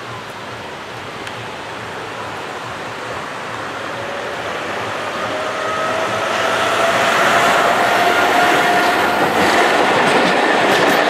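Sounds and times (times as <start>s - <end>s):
passing road traffic: 0.0s - 11.0s
tram rolling on track: 0.0s - 11.0s
tram whine: 0.0s - 11.0s.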